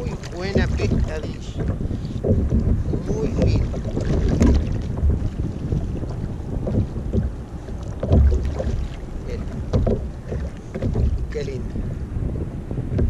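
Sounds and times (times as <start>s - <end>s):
dull bumps on kayak: 0.0s - 11.6s
wind rumbling on microphone: 0.0s - 13.0s.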